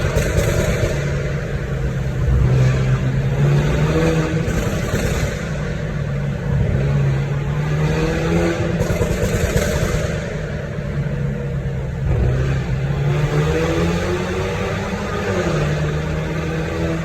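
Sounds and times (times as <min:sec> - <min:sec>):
car engine exhaust drone: 0:00.0 - 0:17.0.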